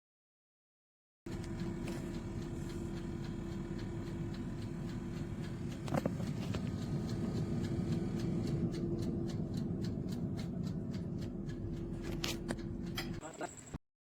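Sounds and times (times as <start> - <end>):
oven fan hum: 1.3 - 13.7.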